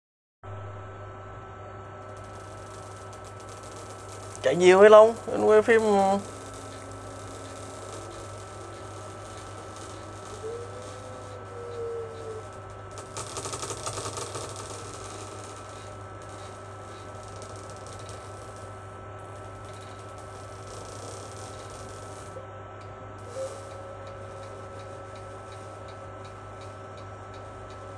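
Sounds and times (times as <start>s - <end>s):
electrical hum: 0.5s - 27.9s
high whine: 0.5s - 27.9s
rapid clicking: 2.1s - 22.4s, 23.2s - 27.9s.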